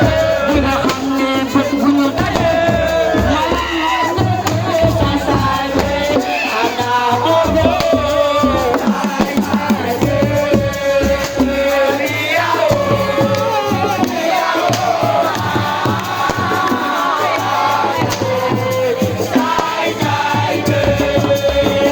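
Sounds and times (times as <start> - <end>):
voices chanting over beat: 0.0 - 21.9.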